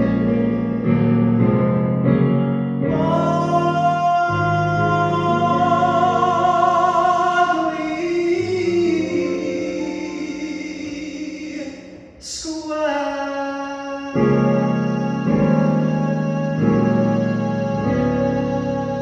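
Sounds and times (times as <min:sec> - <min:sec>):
person singing slow ballad: 0:02.8 - 0:19.0.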